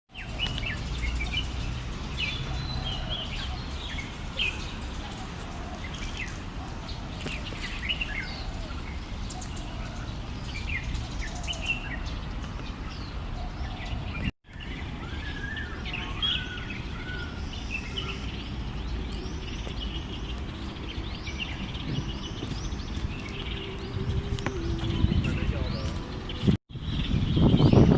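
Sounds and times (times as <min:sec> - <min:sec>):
small birds chirping: 0:00.1 - 0:27.9.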